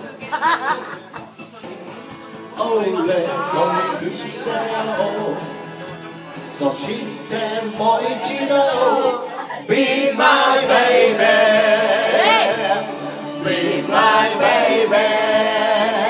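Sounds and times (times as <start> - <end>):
backing music: 0.0 - 16.0
person singing karaoke: 0.0 - 16.0.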